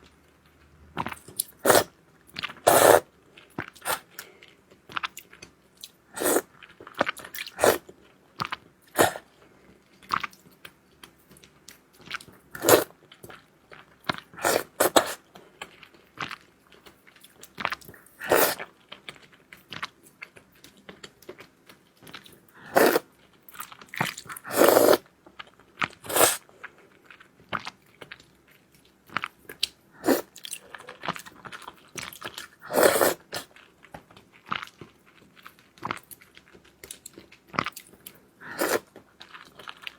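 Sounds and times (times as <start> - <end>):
person chewing crunchy food: 1.0 - 39.9.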